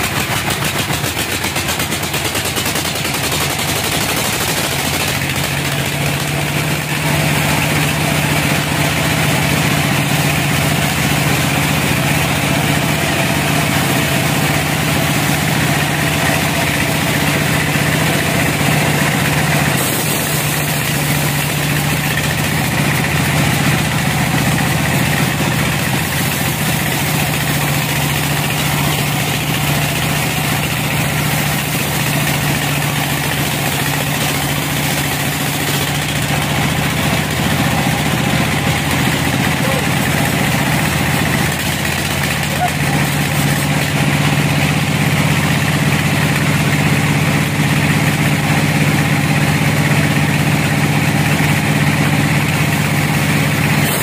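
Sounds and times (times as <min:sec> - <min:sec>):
band sawmill drone and hiss: 0:00.0 - 0:54.0.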